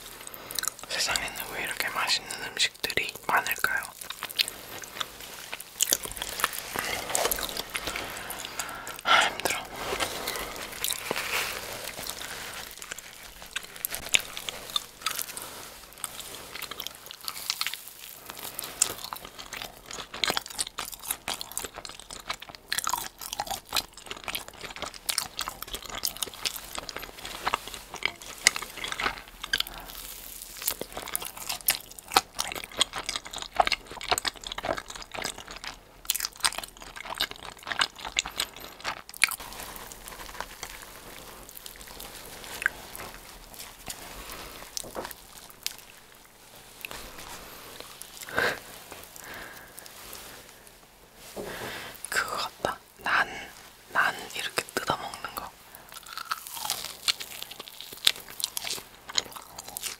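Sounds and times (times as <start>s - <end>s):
person chewing crusty bread: 0.0s - 59.9s.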